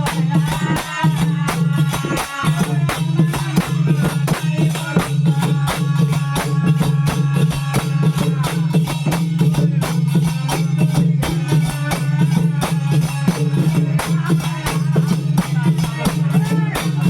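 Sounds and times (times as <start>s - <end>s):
devotional singing: 0.0s - 17.0s
fast percussion beat: 0.0s - 17.0s.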